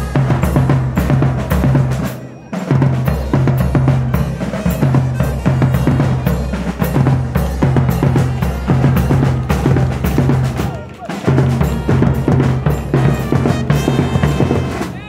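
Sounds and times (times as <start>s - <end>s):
bass drums: 0.0s - 2.1s, 2.7s - 15.0s
hand cymbals: 0.0s - 15.0s
snare drums: 0.0s - 15.0s.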